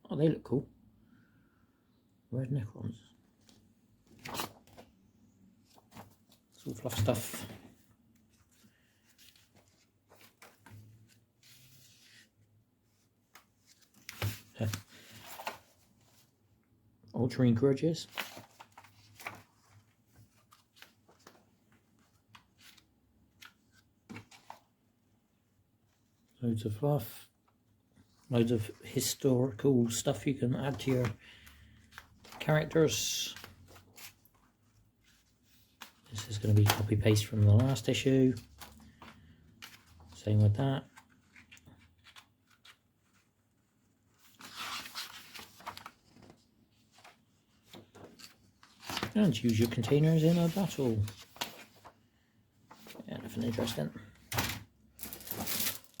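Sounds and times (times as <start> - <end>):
magazine pages rustling: 3.4 - 16.4, 18.0 - 24.9, 28.0 - 56.0.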